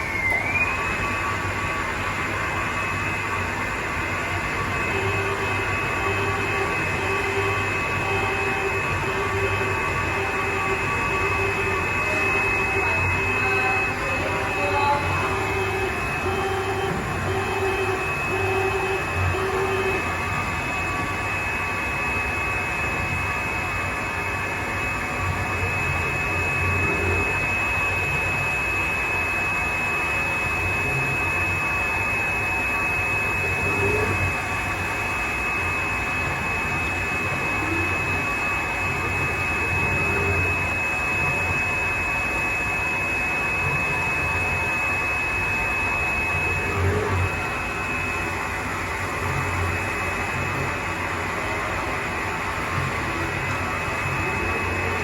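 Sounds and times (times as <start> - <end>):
cutting machine whining: 0.0 - 55.0.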